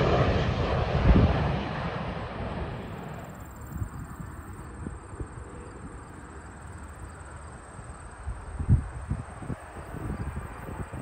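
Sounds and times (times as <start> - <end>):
distant jet airliner rumble: 0.0 - 11.0.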